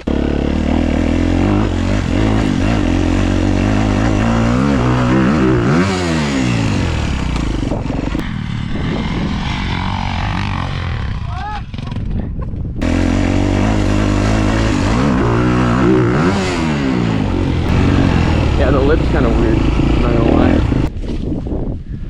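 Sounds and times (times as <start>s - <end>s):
dirt bike engine revving: 0.0s - 12.1s, 12.8s - 20.9s.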